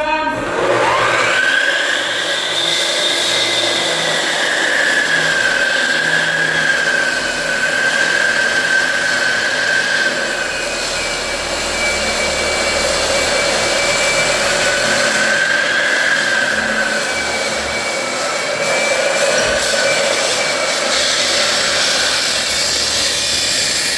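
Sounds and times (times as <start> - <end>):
electric saw whining: 0.0 - 23.9.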